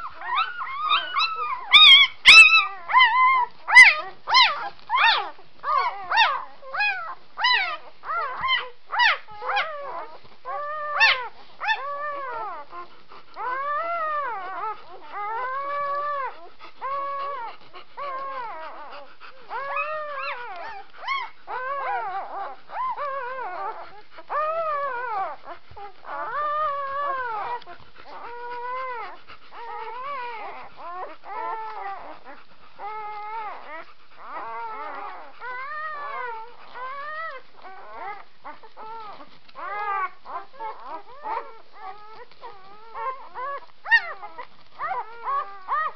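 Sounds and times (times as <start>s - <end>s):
puppies squealing and whining: 0.0s - 45.9s.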